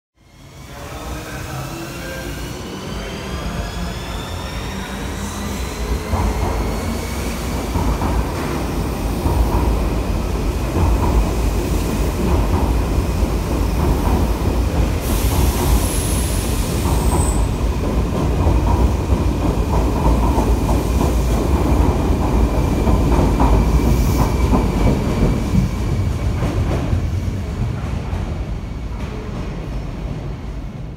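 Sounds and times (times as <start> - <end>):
train wheels rumbling: 1.0 - 30.9.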